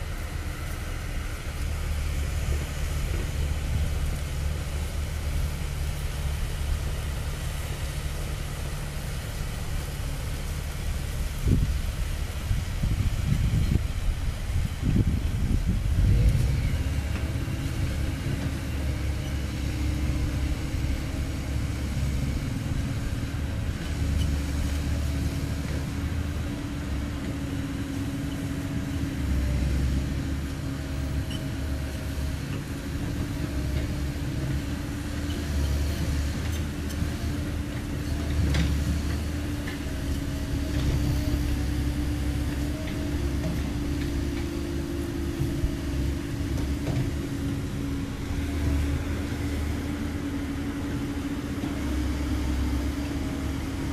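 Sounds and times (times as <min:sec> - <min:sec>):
excavator diesel engine: 0:00.0 - 0:53.9
hydraulics humming: 0:00.0 - 0:53.9.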